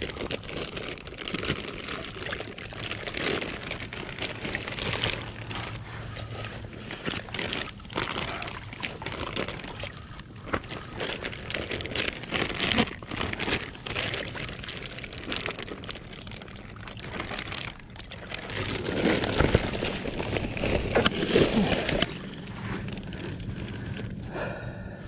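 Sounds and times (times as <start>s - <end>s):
water splashing: 0.0s - 23.8s
plastic bag crinkling: 0.0s - 24.2s.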